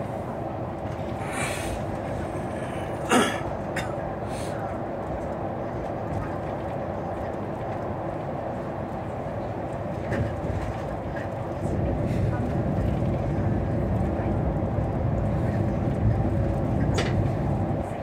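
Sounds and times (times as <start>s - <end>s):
bus engine and tyre noise: 0.0s - 18.0s.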